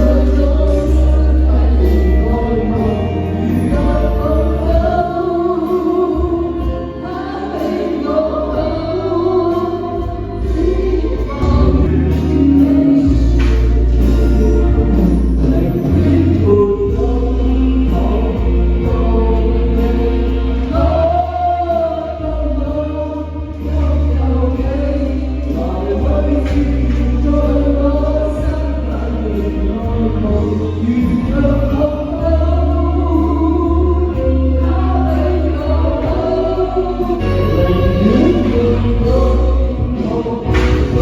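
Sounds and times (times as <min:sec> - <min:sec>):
amplified band music: 0:00.0 - 0:41.0
heavy steady bass: 0:00.0 - 0:41.0
voices singing: 0:00.0 - 0:41.0.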